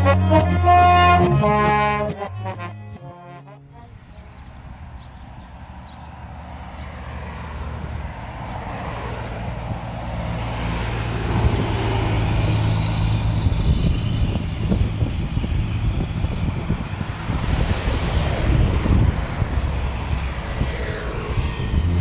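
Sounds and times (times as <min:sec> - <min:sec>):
diesel train engine drone: 0:00.0 - 0:22.0.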